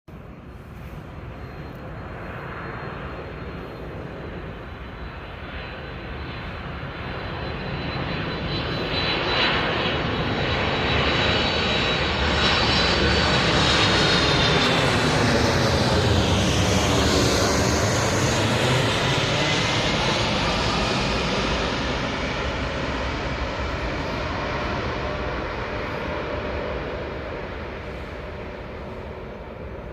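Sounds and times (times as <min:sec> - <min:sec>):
jet engines rumbling and whining: 0:00.1 - 0:29.9.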